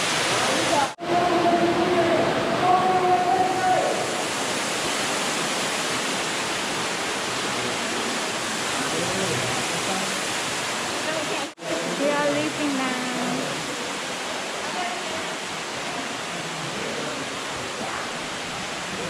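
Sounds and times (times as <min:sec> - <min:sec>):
cave waterfall rushing: 0:00.0 - 0:19.0.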